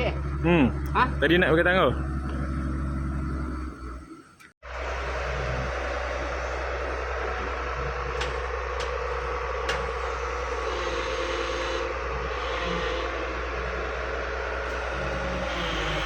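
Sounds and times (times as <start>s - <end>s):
excavator engine humming: 0.0s - 16.0s.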